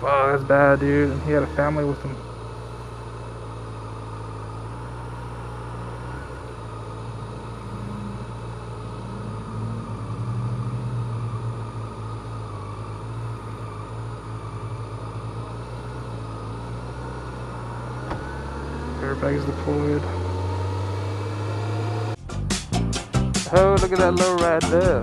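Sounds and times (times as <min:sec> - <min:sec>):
motorcycle engine at low revs: 0:00.0 - 0:22.2.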